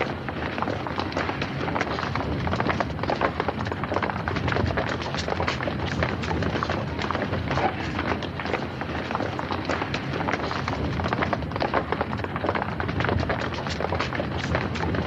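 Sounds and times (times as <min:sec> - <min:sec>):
crowd footsteps on concrete stairs: 0:00.0 - 0:15.0.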